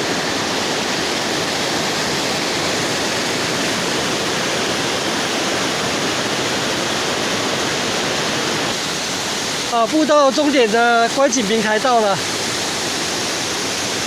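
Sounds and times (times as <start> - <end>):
fast river rushing: 0.0 - 14.0.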